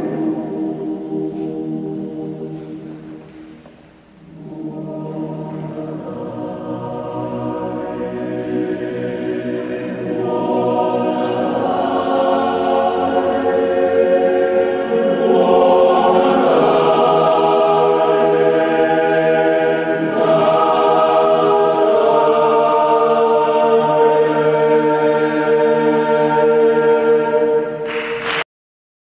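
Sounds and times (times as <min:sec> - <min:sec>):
choir singing held chords: 0:00.0 - 0:28.4.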